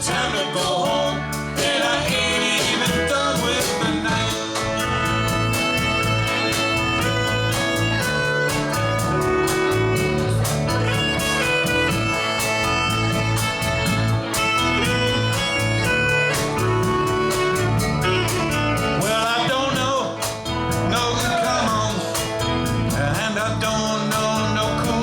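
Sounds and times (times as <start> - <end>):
live band playing: 0.0 - 25.0
lead melody of held notes: 1.0 - 25.0.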